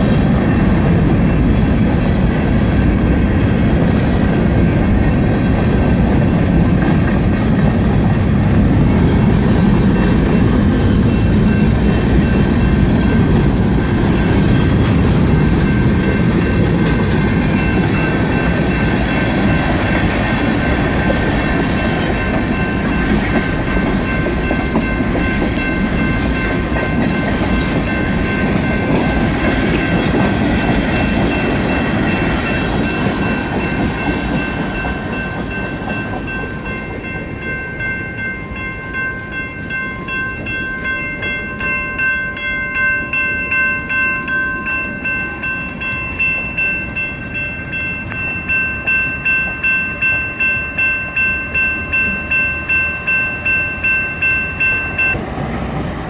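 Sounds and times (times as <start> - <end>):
crossing signal bells ringing: 0.0 - 55.2
freight train rumbling over crossing: 0.0 - 56.0.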